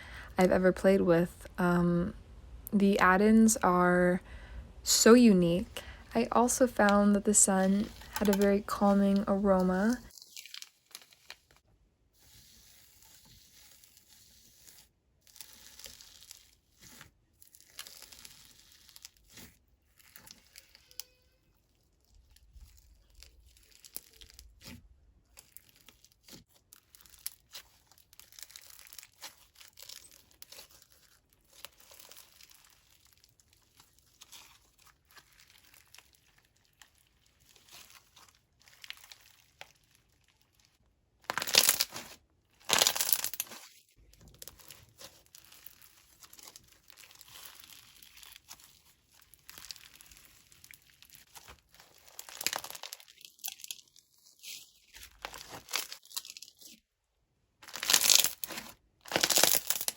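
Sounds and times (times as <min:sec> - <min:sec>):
slime crackling and tearing: 0:05.7 - 0:11.6, 0:12.2 - 0:56.8, 0:57.6 - 0:59.9.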